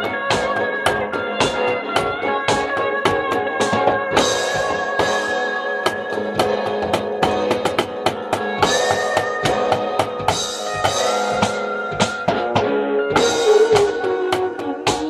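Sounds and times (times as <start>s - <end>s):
electronic drum and cymbal strikes: 0.0s - 15.0s
held guitar-like notes: 0.0s - 15.0s.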